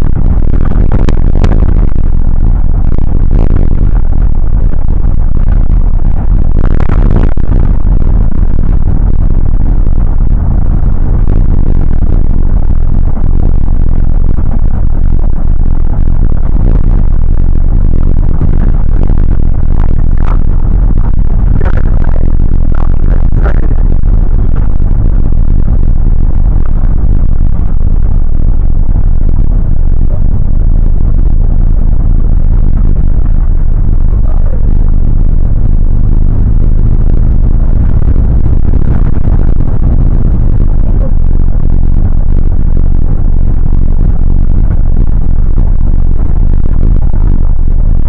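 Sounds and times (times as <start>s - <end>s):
road rumble: 0.0s - 48.0s.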